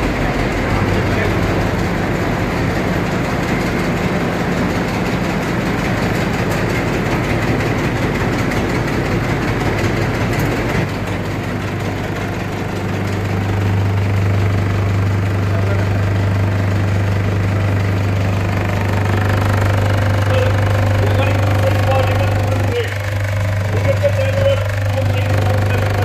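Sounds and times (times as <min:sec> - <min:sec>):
strong low hum: 0:00.0 - 0:08.6, 0:10.3 - 0:26.0
vehicle engine running: 0:00.0 - 0:26.0.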